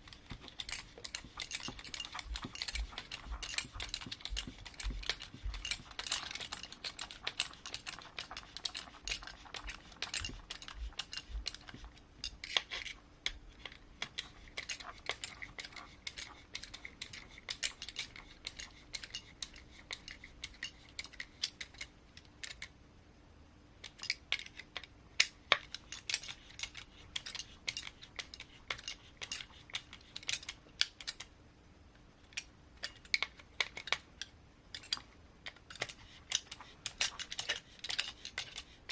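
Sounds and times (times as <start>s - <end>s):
clicks of small parts and tools: 0.0s - 22.8s, 23.8s - 31.3s, 32.2s - 38.9s.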